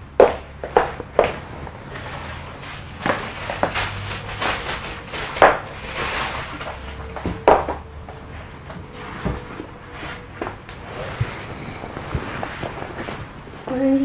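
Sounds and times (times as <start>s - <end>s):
rustling: 0.2s - 14.0s.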